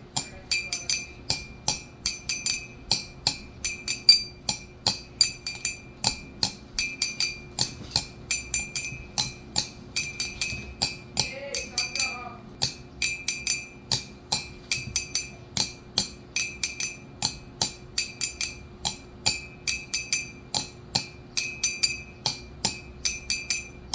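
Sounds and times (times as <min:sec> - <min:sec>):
glass clinking: 0:00.2 - 0:23.9.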